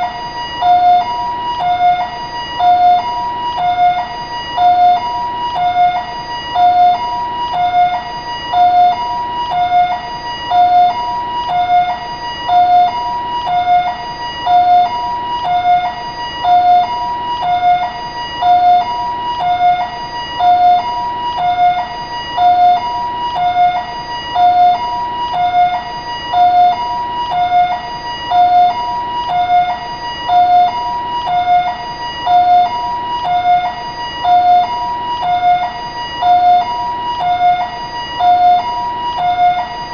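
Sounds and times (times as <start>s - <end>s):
ambulance siren two-tone: 0.0s - 39.9s.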